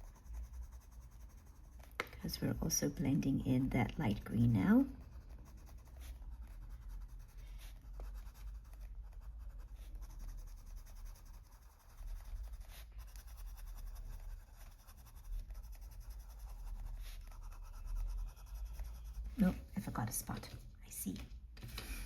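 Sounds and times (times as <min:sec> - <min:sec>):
coloured pencil rubbing on paper: 0:00.0 - 0:20.6.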